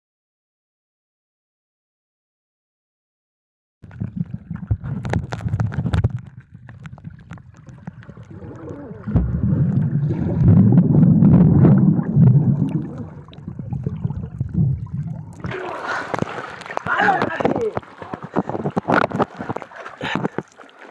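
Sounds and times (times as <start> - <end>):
underwater rumble of water: 3.8 - 20.9.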